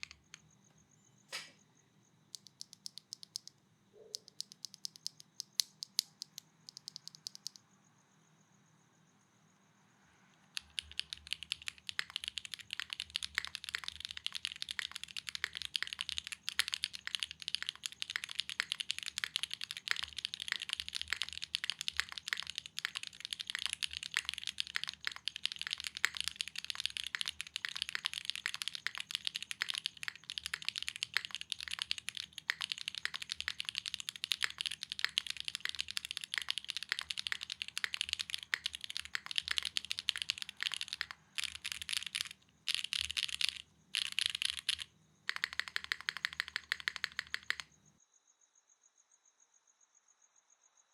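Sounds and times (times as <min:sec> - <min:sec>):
fast mechanical keyboard typing: 0:00.0 - 0:00.4, 0:02.4 - 0:03.5, 0:04.2 - 0:07.6, 0:10.4 - 0:47.7.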